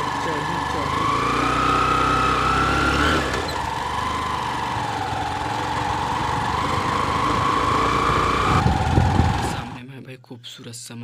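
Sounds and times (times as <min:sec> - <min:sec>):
motorcycle engine whining: 0:00.0 - 0:09.8.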